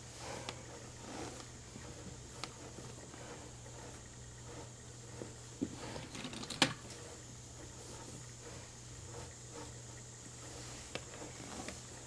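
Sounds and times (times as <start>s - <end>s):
ruler shifted on fabric: 0.0s - 12.0s.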